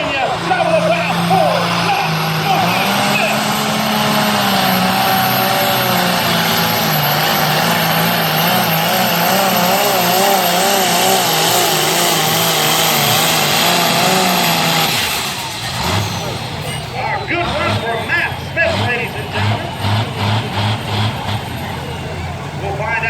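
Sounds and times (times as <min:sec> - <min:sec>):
diesel tractor engine under load: 0:00.0 - 0:23.0.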